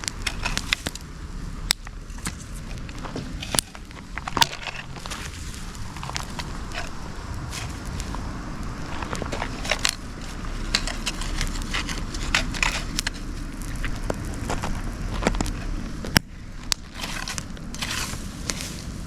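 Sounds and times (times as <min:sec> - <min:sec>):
bonfire crackling and popping: 0:00.0 - 0:19.0
low rumble: 0:00.0 - 0:19.0.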